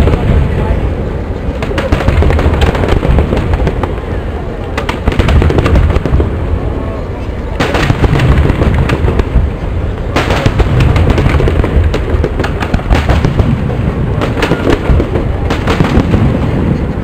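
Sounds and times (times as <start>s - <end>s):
firework cracks: 0.0s - 0.8s, 1.5s - 6.6s, 7.6s - 17.0s
firework booms: 0.0s - 0.9s, 1.5s - 6.7s, 7.6s - 17.0s.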